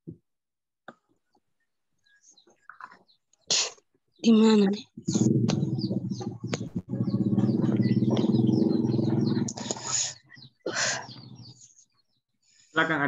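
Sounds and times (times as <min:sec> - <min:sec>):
birds chirping: 0:01.0 - 0:13.0.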